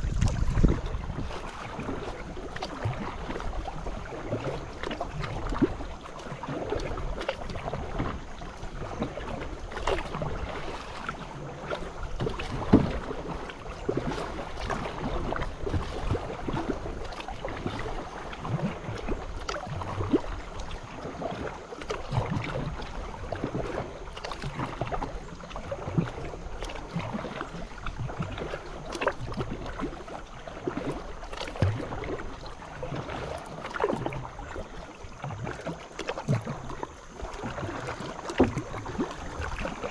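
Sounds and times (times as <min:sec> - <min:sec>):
paddle splashing in water: 0:00.0 - 0:39.9
watery background: 0:00.0 - 0:39.9.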